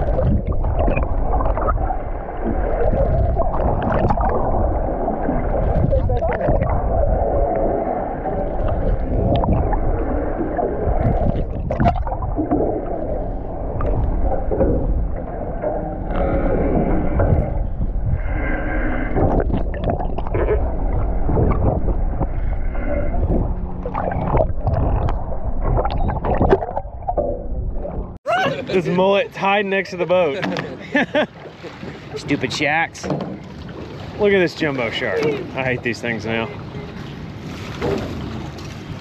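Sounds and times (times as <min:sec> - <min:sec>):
boat noise: 0:00.0 - 0:39.0
water rumble: 0:00.0 - 0:39.0.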